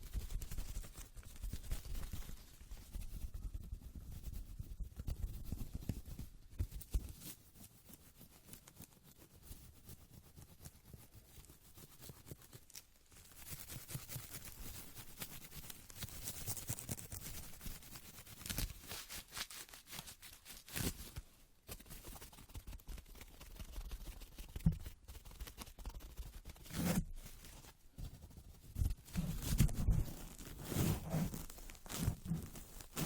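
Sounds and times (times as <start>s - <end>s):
scratchy rustling: 0.1s - 33.0s.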